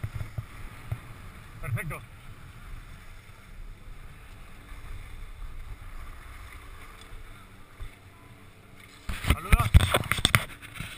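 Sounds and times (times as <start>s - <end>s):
wind rumbling on microphone: 0.0s - 8.1s, 8.9s - 10.9s.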